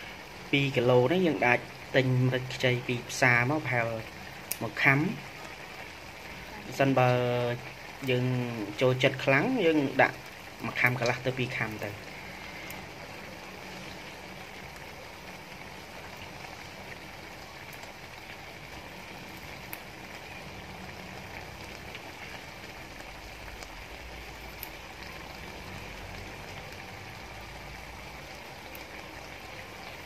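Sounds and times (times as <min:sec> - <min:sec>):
squid sizzling in a wok: 0:00.0 - 0:30.0.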